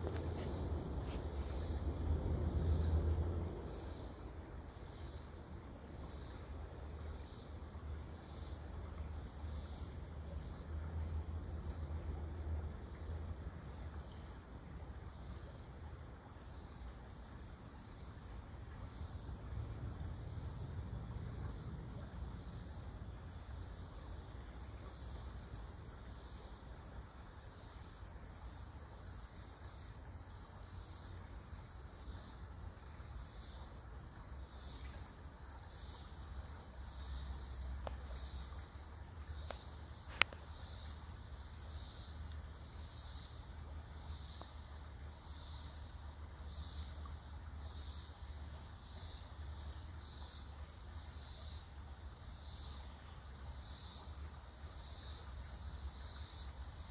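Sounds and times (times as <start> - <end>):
faint stream water: 0.0 - 56.9
insects buzzing in chorus: 0.0 - 56.9
pulsing insect chirp: 0.0 - 56.9.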